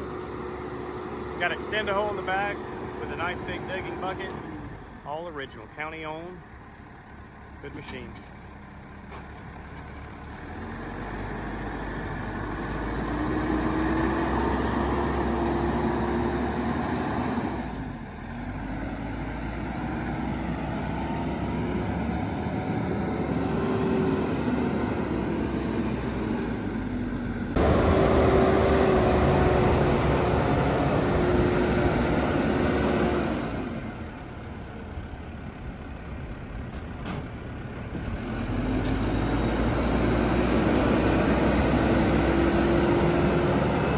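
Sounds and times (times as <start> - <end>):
diesel engine revving: 0.0 - 43.9.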